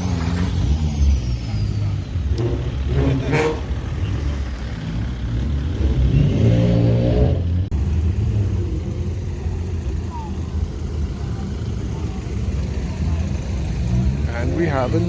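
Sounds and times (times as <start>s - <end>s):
car engine revving: 0.0s - 15.0s
car engines rumbling: 0.0s - 15.0s.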